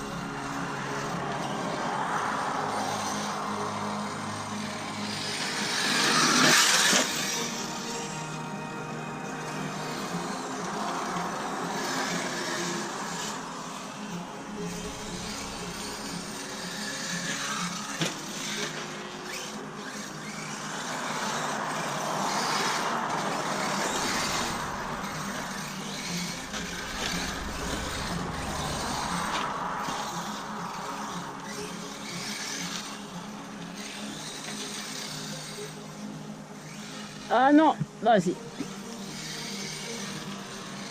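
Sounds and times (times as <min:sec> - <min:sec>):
rc car motor whine: 0:00.0 - 0:40.9.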